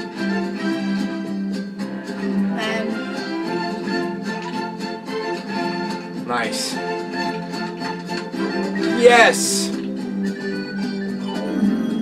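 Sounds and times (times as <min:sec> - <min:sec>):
string soundtrack music: 0:00.0 - 0:12.0.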